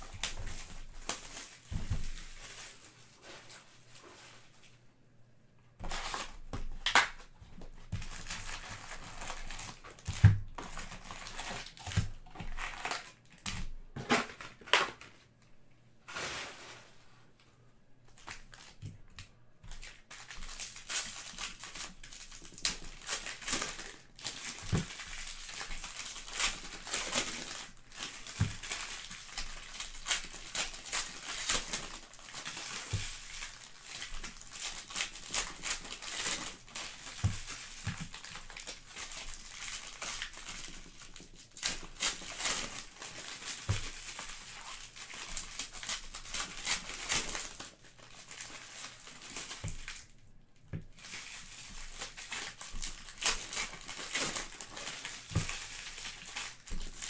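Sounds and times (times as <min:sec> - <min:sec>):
foil wrappers crinkling: 0:00.0 - 0:04.6, 0:05.8 - 0:15.1, 0:19.6 - 0:50.2, 0:50.9 - 0:57.0.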